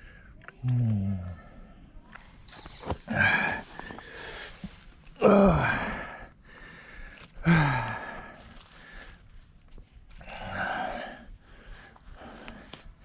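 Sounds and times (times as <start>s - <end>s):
soft breathing: 0.0s - 13.0s.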